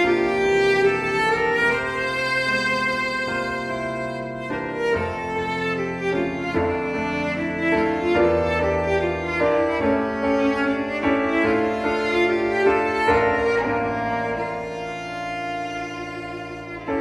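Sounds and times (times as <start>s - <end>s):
piano: 0.0s - 17.0s
violin and cello: 0.0s - 17.0s.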